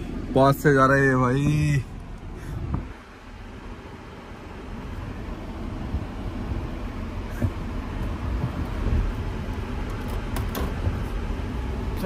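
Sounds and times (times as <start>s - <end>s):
car rumbling inside cabin: 0.0s - 12.0s.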